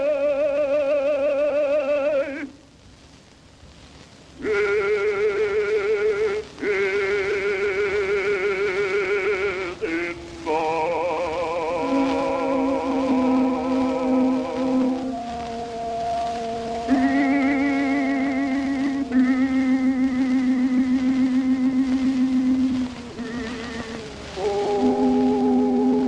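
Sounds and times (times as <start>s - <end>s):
bass-baritone singing with vibrato: 0.0s - 2.6s, 4.4s - 26.0s
recording hiss: 0.0s - 26.0s.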